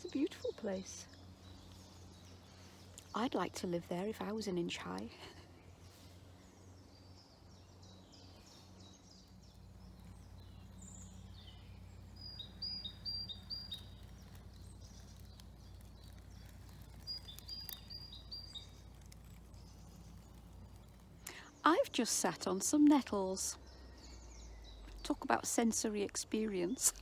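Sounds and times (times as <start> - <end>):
faint low rumble: 0.0 - 27.0
songbirds singing: 0.0 - 27.0.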